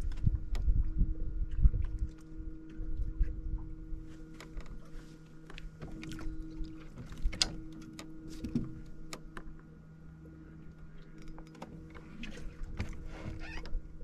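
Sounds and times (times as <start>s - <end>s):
trolling motor hum: 0.0s - 14.0s.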